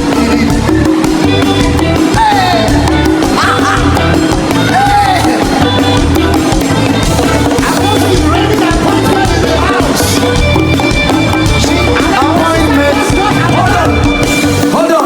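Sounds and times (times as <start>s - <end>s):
voices singing: 0.0s - 15.0s
worship music with bass beat: 0.0s - 15.0s.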